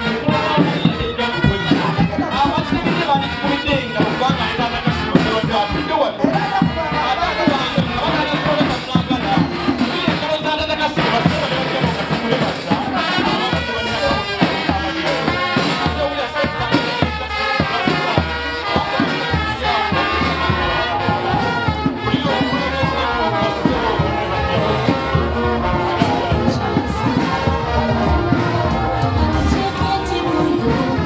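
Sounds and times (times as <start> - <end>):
drums and cymbals beat: 0.0 - 31.0
sousaphone: 0.0 - 31.0
trombones: 0.0 - 31.0
trumpets: 0.0 - 31.0.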